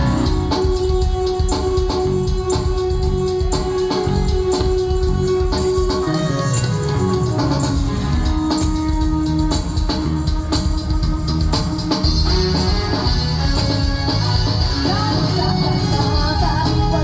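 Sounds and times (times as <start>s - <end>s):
band music: 0.0s - 17.0s
drums steady beat: 0.0s - 17.0s
wavering melody line: 0.0s - 17.0s.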